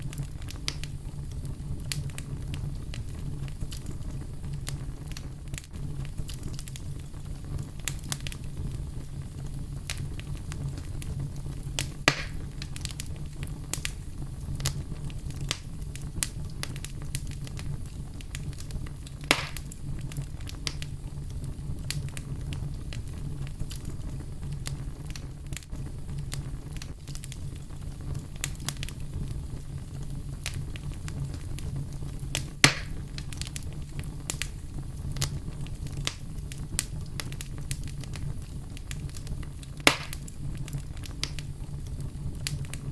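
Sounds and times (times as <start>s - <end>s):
loud fire pops: 0.0s - 42.9s
wood fire crackling: 0.0s - 42.9s.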